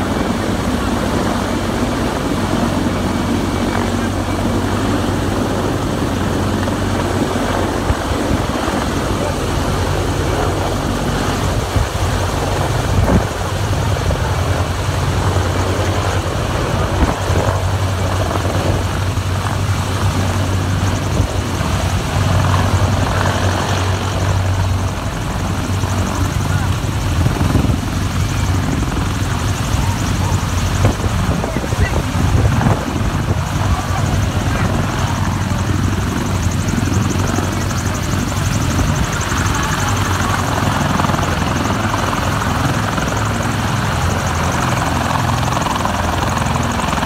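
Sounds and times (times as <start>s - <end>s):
helicopter hovering: 0.0s - 47.0s.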